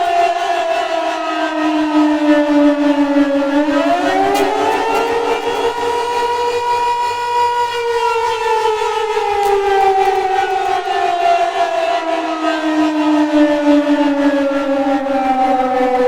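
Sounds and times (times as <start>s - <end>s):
warning siren wailing: 0.0s - 16.0s.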